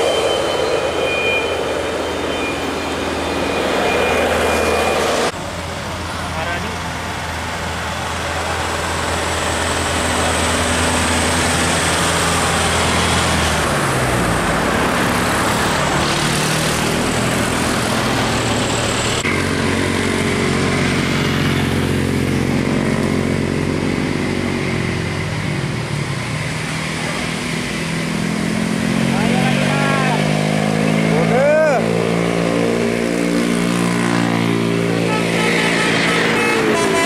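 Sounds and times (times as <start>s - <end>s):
bus engine hum: 0.0s - 37.0s
minibus engine passing: 0.0s - 37.0s
motorcycles passing: 2.7s - 37.0s.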